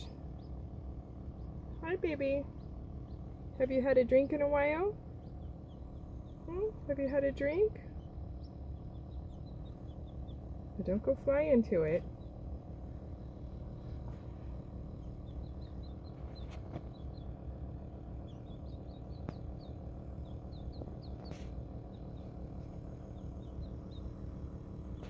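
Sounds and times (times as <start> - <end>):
incubator hum: 0.0 - 25.0
quail chick peeping: 0.0 - 25.0.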